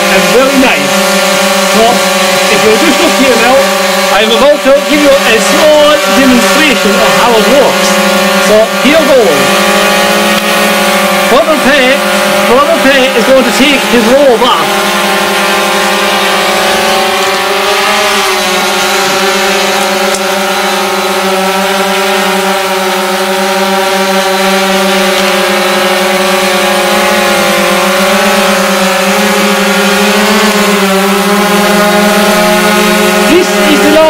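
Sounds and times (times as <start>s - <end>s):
drone propellers buzzing: 0.0s - 34.0s.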